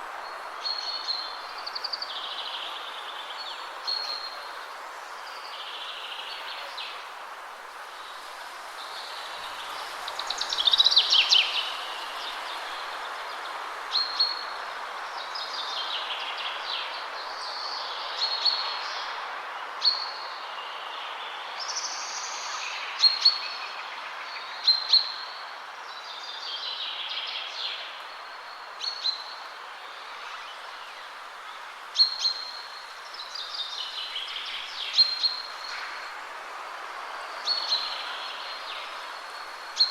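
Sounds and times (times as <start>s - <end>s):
small birds singing: 0.0s - 7.1s, 7.9s - 36.3s
wind in trees: 0.0s - 39.9s.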